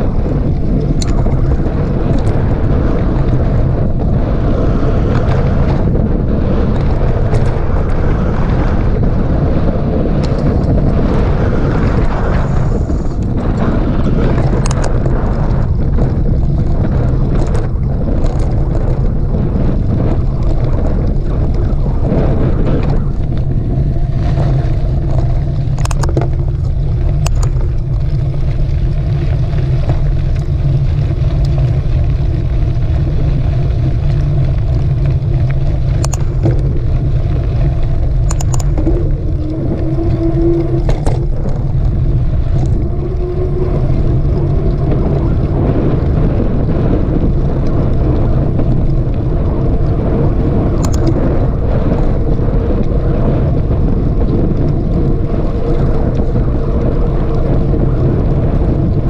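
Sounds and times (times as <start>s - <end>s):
bike clicks and rattles: 0.0s - 59.0s
wind rumble on microphone: 0.0s - 59.0s.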